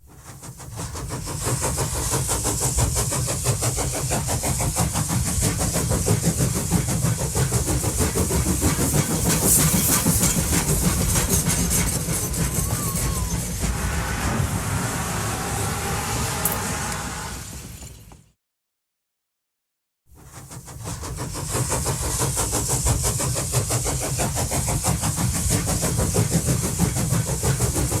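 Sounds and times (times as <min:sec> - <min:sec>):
train running: 0:00.0 - 0:18.4, 0:20.2 - 0:28.0.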